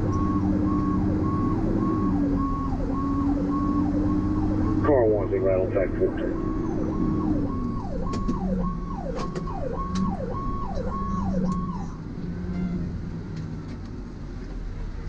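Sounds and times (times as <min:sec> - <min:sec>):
fire truck siren yelping: 0:00.0 - 0:13.0
road noise: 0:00.0 - 0:15.0
truck engine drone: 0:00.0 - 0:15.0.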